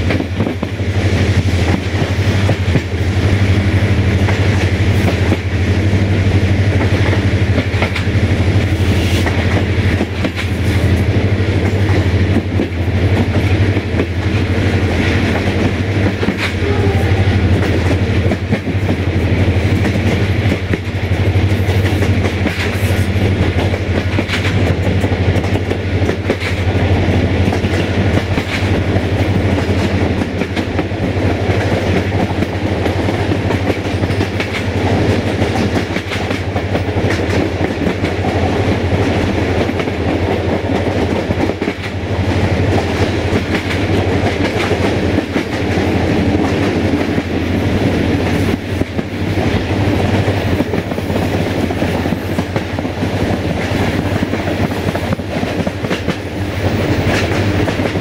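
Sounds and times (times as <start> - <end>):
train low drone and rushing: 0.0 - 58.0
train wheels clicking over rail joints: 0.0 - 58.0.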